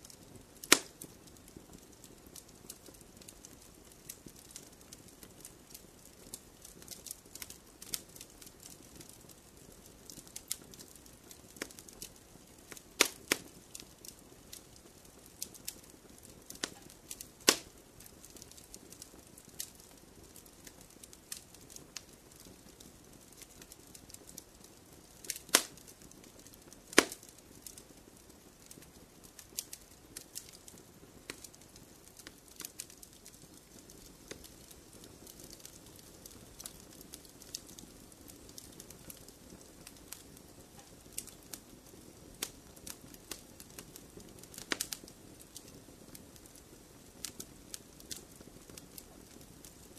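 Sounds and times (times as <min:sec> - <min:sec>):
wood fire crackling: 0:00.0 - 0:49.9
loud fire pops: 0:00.1 - 0:49.9.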